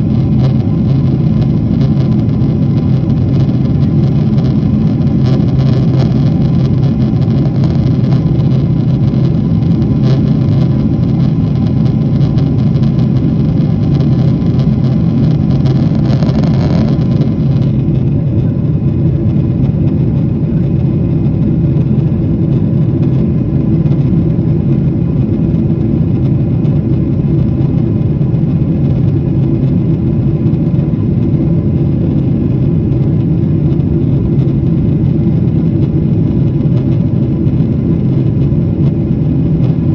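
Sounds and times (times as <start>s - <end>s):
loud engine drone: 0.0s - 39.9s.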